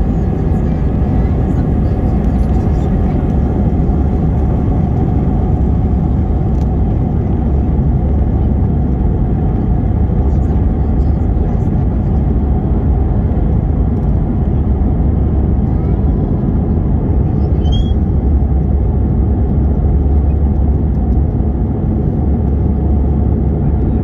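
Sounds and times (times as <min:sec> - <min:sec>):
airplane cabin engine roar: 0:00.0 - 0:24.0.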